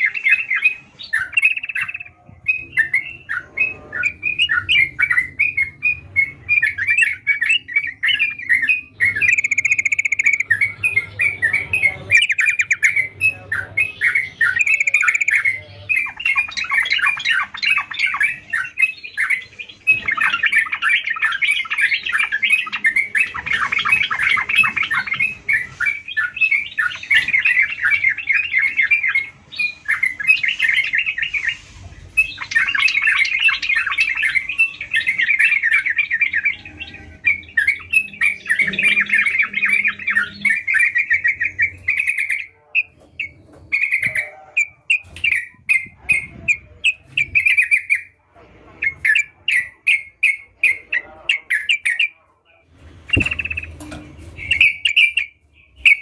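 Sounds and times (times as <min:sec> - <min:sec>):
bulbul singing chattering notes: 0:00.0 - 0:48.2.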